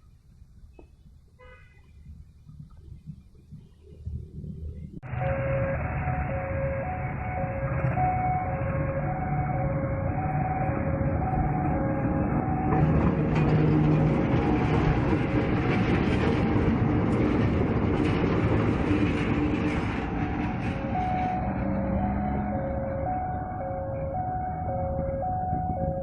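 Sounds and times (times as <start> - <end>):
freight train rolling on rails: 4.4 - 26.0.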